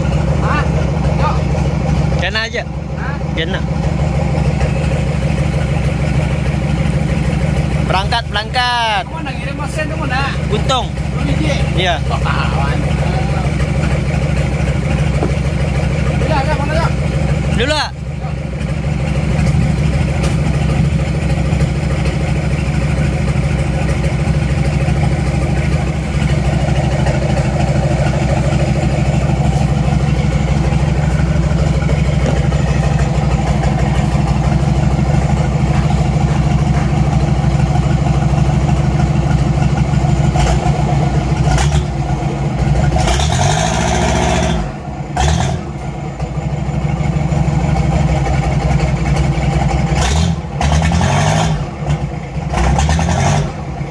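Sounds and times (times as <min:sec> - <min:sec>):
diesel boat engine running: 0:00.0 - 0:53.9.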